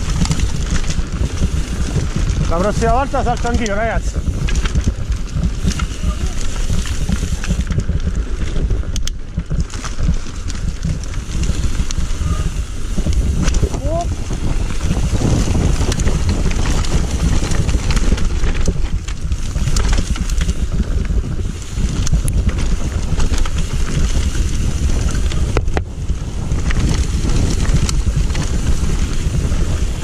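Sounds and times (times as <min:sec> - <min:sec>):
bike clicks and rattles: 0:00.0 - 0:30.0
bike tyre rumble: 0:00.0 - 0:30.0
wind over microphone: 0:00.0 - 0:30.0.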